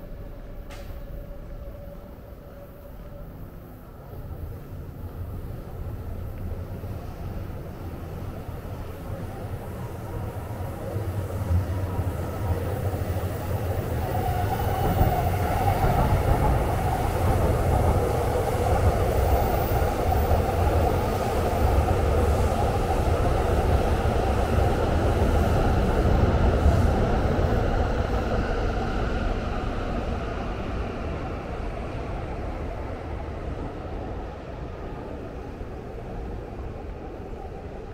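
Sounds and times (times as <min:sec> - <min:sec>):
train rumbling past: 0:00.0 - 0:37.9.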